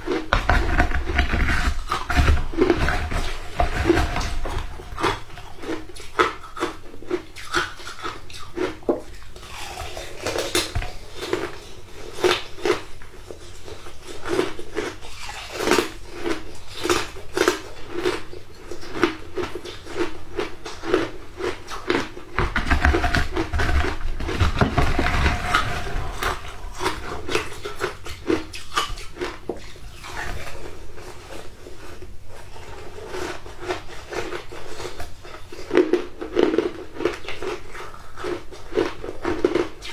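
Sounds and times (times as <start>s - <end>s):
ice crunching in chewing: 0.0s - 39.9s.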